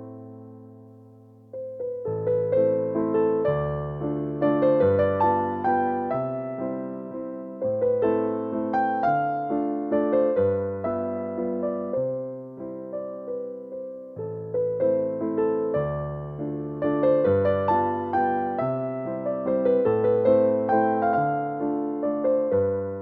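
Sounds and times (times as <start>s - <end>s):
gentle electric piano piece: 0.0s - 23.0s.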